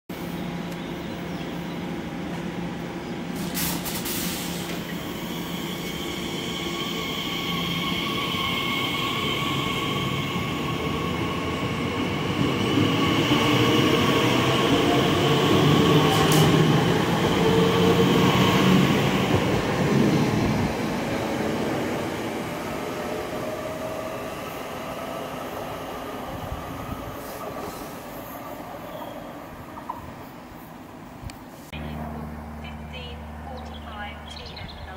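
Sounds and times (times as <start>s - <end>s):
electric train whine: 0.1s - 31.1s
train wheels rumbling: 0.5s - 30.8s.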